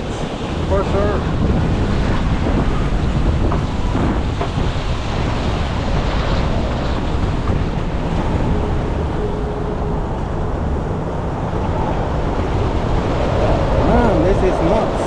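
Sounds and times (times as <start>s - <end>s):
waves rushing: 0.0s - 15.0s
wind blowing over microphone: 0.0s - 15.0s.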